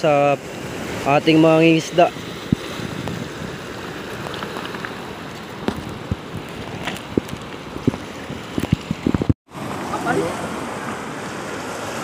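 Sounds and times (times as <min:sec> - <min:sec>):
waves washing over pebbles: 0:00.0 - 0:12.0.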